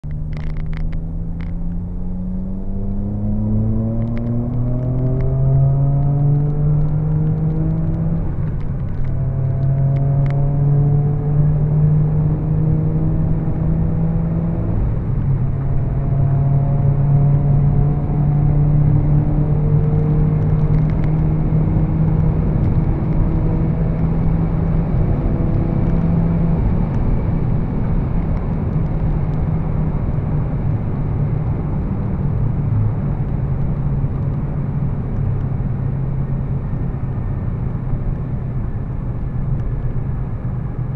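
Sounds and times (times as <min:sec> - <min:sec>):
car engine at full throttle: 0:00.0 - 0:40.9
road and wind noise: 0:00.0 - 0:40.9.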